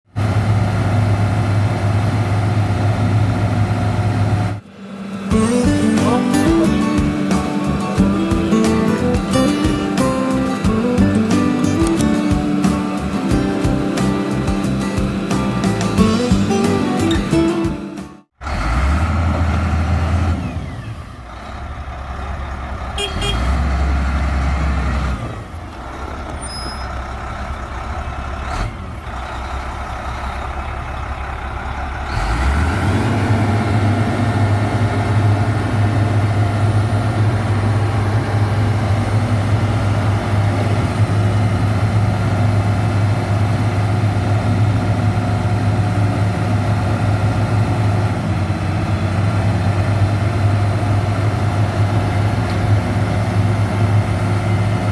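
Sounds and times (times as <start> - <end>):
heavy diesel engine running: 0.1 - 54.9.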